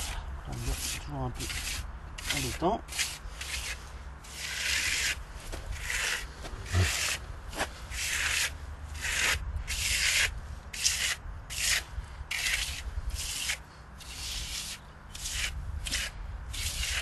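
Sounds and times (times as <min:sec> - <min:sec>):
trowel scraping plaster: 0:00.0 - 0:17.0.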